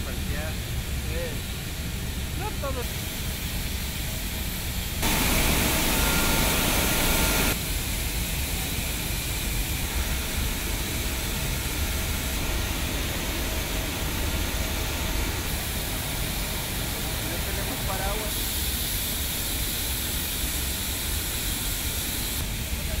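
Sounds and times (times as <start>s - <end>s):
industrial plant hiss: 0.0s - 23.0s.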